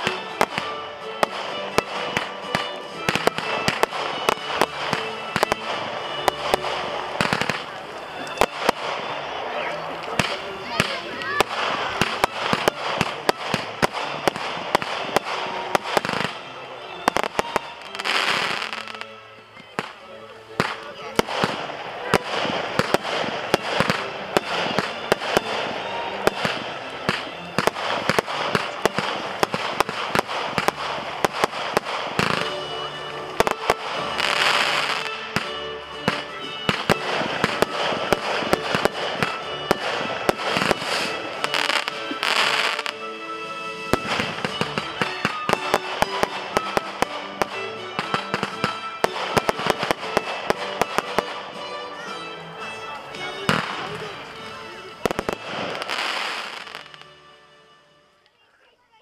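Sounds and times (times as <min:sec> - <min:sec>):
fireworks bangs and crackles: 0:00.0 - 0:57.2
music with held notes: 0:00.0 - 0:59.0.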